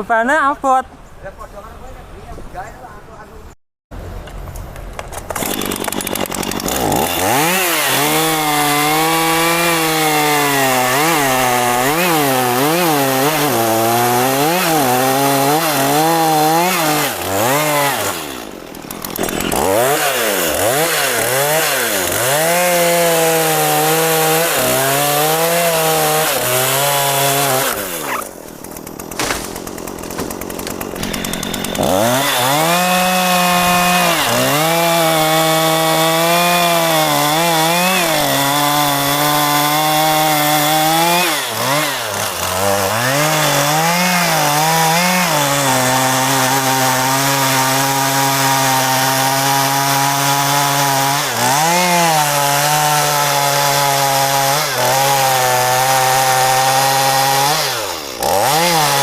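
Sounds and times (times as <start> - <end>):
chainsaw cutting wood: 4.3 - 59.0.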